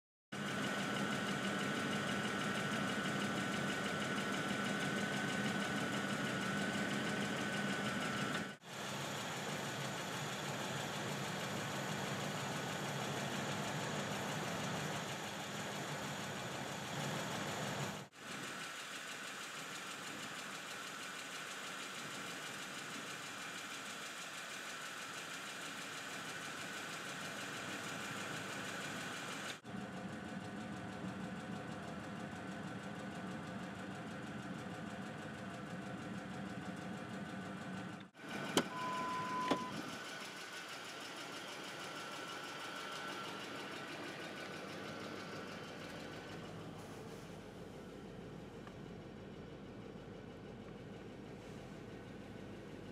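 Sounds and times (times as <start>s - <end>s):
car engine idling: 0.4s - 52.9s.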